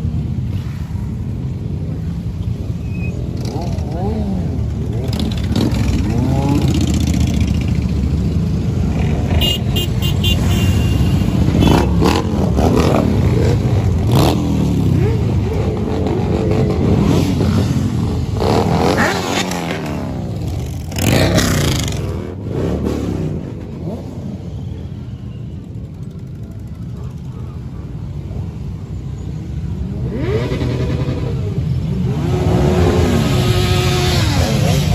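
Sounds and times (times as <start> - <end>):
motorcycle engines revving: 0.0 - 34.9.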